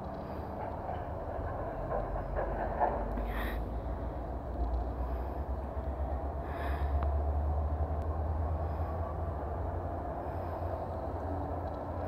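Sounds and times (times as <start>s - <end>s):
freight car wheels rumbling on rails: 0.0s - 12.0s.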